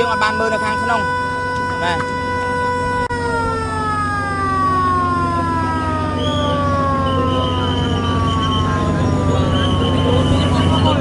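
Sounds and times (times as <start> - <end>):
fire engine siren winding down: 0.0 - 11.0
truck engine running: 0.0 - 11.0.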